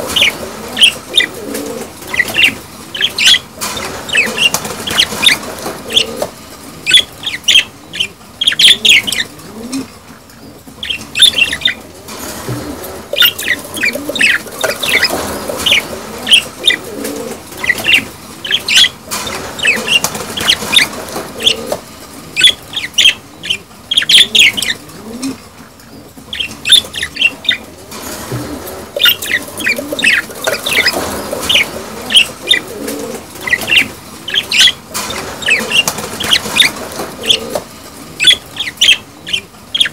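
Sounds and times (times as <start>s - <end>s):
budgerigars chirping and warbling: 0.0s - 9.8s, 10.4s - 39.9s.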